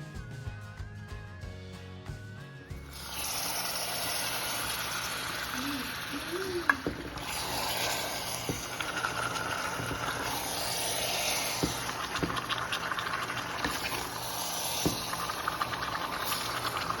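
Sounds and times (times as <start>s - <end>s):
chicken sizzling in a pan: 2.9s - 17.0s.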